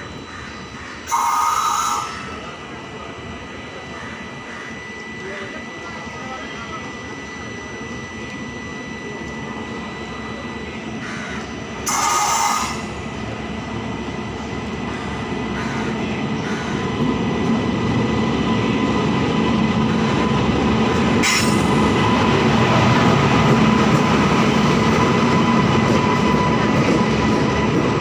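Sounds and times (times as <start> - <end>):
thin steady whine: 0.0 - 26.8
train wheels rumbling on rails: 0.0 - 28.0.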